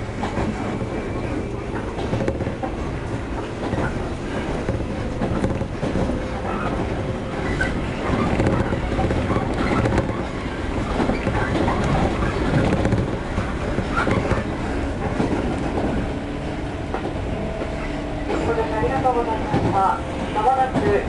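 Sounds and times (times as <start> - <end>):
train car body rattling: 0.0 - 21.0
train wheels on rails: 0.0 - 21.0.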